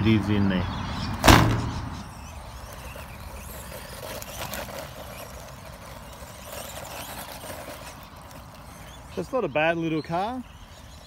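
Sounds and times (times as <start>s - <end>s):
toy truck tyres rushing over dirt: 1.1s - 11.0s.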